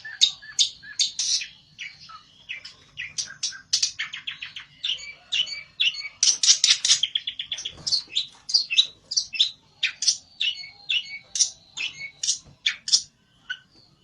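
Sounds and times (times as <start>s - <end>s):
songbird chirping rapidly: 0.0s - 14.0s.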